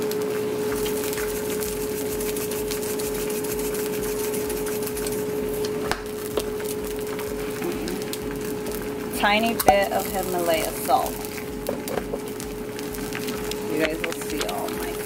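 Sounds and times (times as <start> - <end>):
eggs sizzling in a pan: 0.0 - 15.0
steady hum: 0.0 - 15.0.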